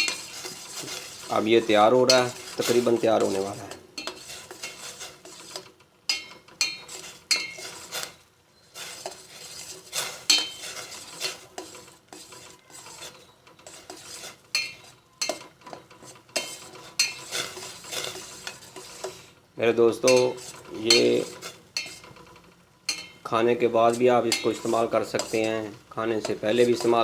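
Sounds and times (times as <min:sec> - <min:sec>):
spoon scraping and clinking pot: 0:00.0 - 0:27.0.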